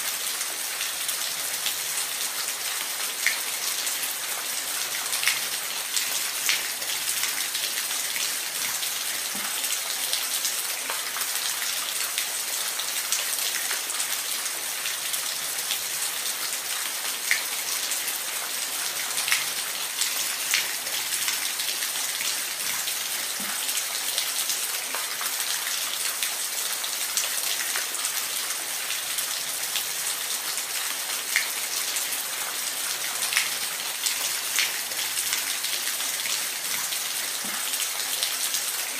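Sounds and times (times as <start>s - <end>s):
rain falling in forest: 0.0s - 38.9s.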